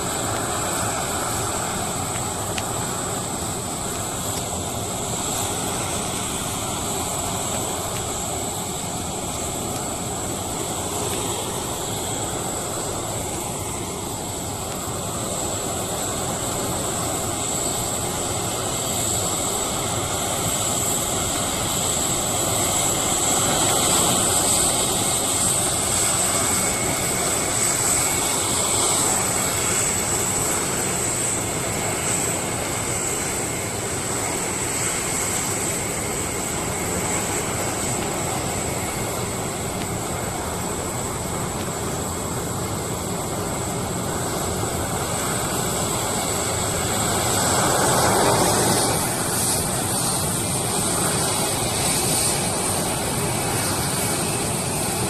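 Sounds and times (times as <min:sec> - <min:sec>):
high jet whine: 0:00.0 - 0:55.0
jet engine rumble: 0:00.0 - 0:55.0.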